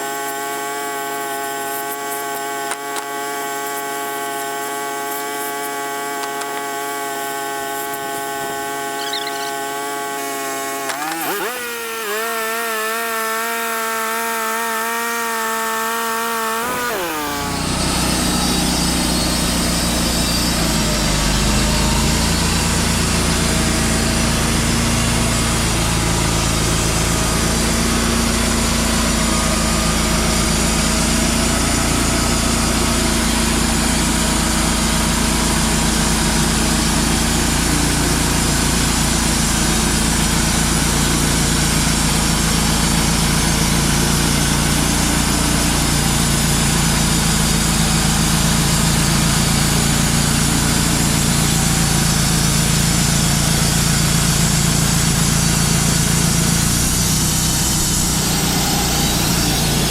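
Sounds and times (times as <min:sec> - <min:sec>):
band saw blade cutting log: 0:00.0 - 0:59.9
sawmill engine hum: 0:00.0 - 0:59.9.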